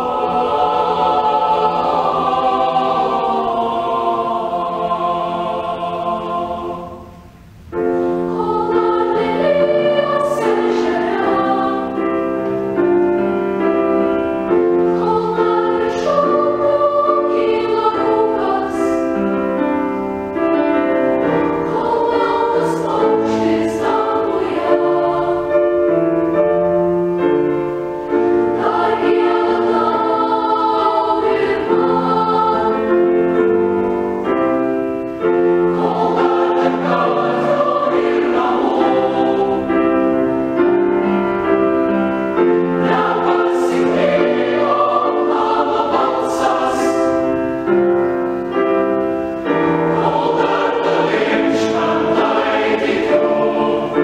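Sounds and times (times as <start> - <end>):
boys' choir singing in harmony: 0.0 - 54.0.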